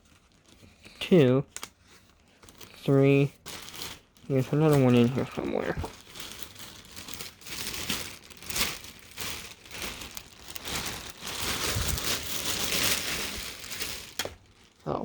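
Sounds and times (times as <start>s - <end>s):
packing material crinkling: 0.0s - 15.0s.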